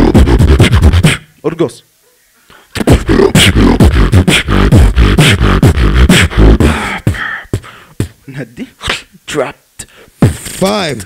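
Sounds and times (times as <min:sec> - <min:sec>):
beatboxing through a microphone: 0:00.0 - 0:01.4, 0:02.5 - 0:11.0.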